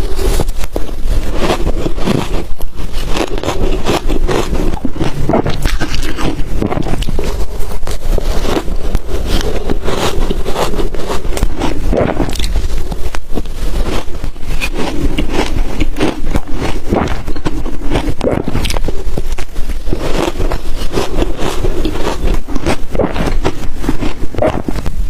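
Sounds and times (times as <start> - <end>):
ice crunching being chewed: 0.0 - 25.0.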